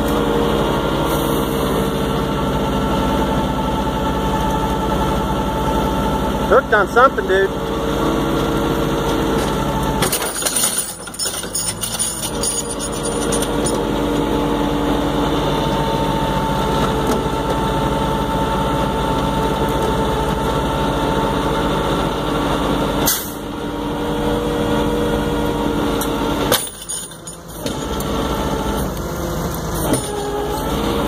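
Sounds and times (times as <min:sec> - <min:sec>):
truck engine running under load: 0:00.0 - 0:31.0.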